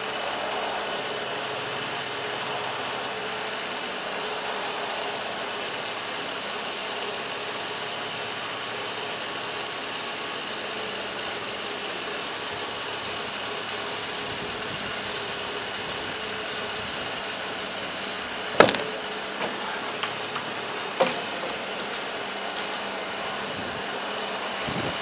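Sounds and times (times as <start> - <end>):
boat diesel engine drone: 0.0 - 25.0.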